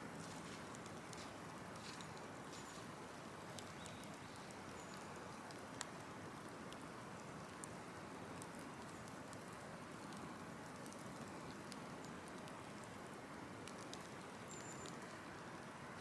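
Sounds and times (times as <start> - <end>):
bonfire hissing and crackling: 0.3 - 16.0.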